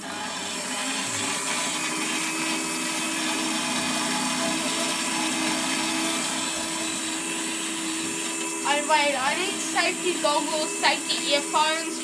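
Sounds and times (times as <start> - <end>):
bandsaw cutting steel: 0.0 - 12.0.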